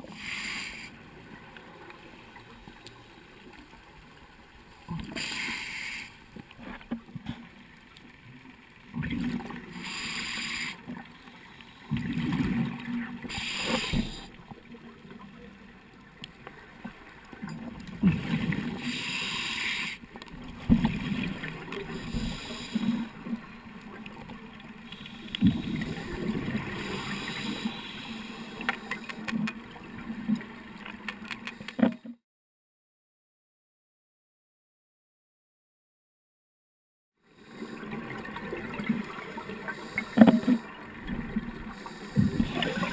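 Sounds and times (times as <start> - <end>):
underwater bubbles gurgling: 1.0 - 31.1, 37.4 - 42.9.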